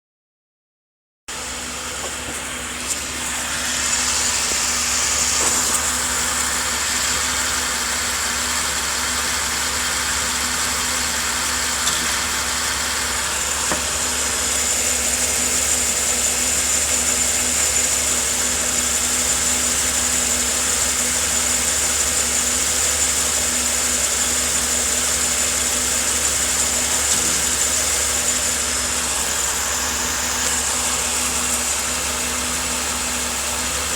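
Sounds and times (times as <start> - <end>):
car engine running with whine: 1.3 - 33.9.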